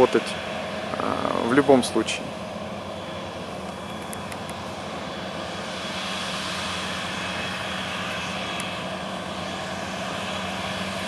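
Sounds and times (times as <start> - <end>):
combine harvester and tractor drone: 0.0 - 11.0.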